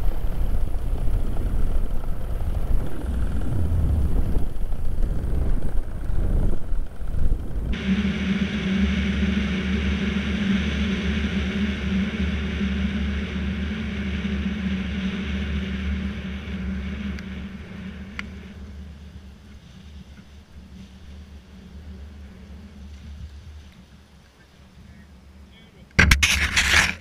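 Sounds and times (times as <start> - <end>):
paramotor engine and propeller: 0.0 - 27.0.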